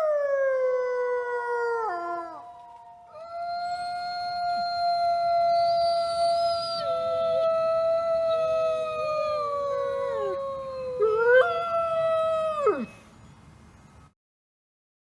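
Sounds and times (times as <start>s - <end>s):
wolves howling: 0.0s - 13.0s.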